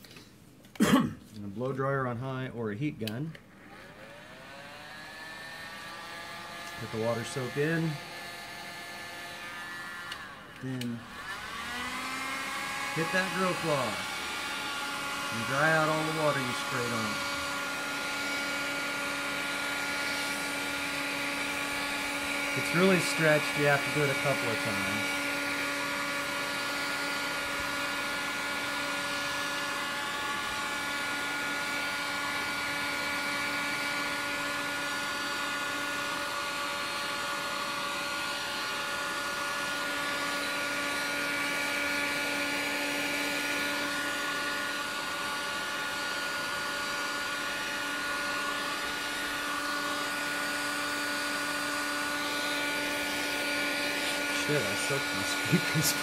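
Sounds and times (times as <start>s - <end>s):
heat gun blowing: 3.4s - 56.0s.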